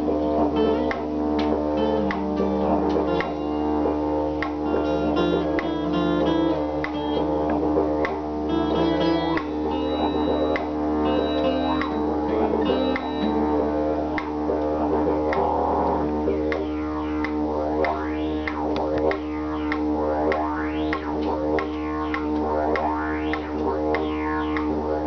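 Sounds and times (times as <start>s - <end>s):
didgeridoo droning: 0.0s - 25.0s.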